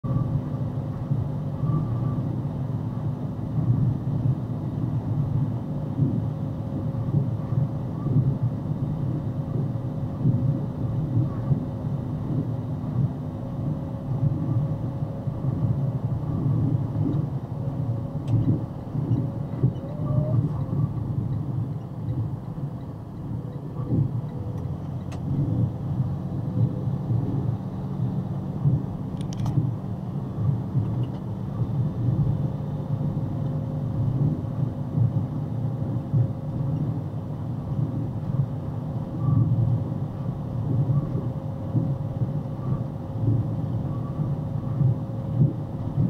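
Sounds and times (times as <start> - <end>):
faint constant hum: 0.0 - 46.0
tyres rumbling on asphalt: 0.0 - 46.0.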